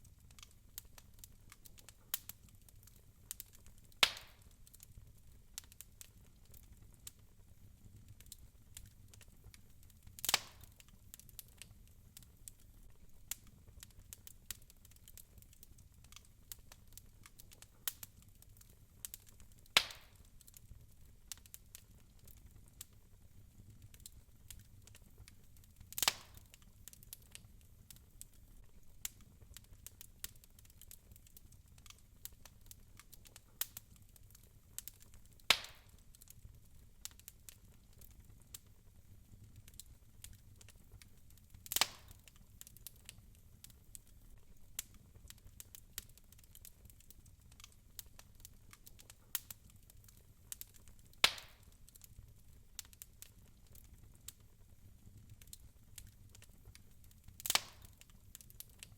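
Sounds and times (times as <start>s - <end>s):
wood fire crackling: 0.0s - 58.9s
fire pops: 0.2s - 7.3s, 8.0s - 23.0s, 23.7s - 38.8s, 39.4s - 58.9s.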